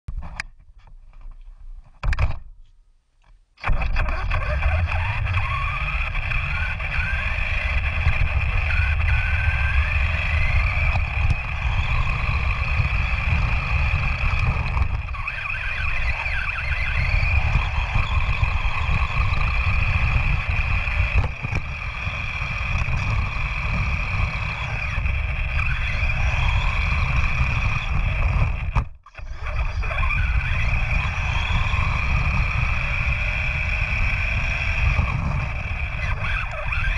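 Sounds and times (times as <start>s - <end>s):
electric motor whine: 3.6s - 36.9s
tyres and wind rumble: 3.7s - 36.9s.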